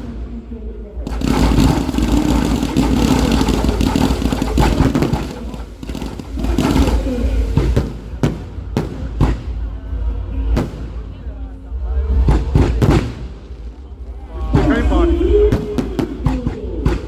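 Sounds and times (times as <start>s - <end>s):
fireworks crackling and bursting: 1.0s - 11.5s, 12.2s - 17.0s
fireworks sharp bangs: 1.0s - 17.0s.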